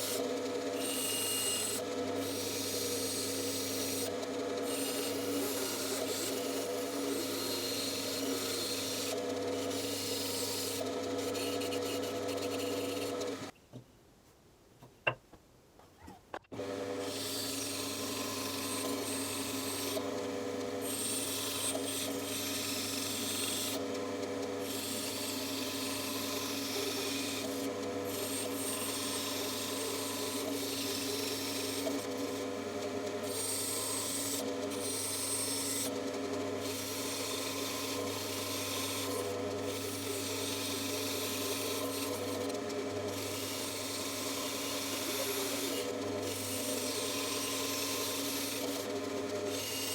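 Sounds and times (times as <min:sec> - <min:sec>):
bandsaw blade cutting wood: 0:00.0 - 0:13.5, 0:16.5 - 0:49.9
bandsaw motor hum: 0:00.0 - 0:13.5, 0:16.4 - 0:49.9.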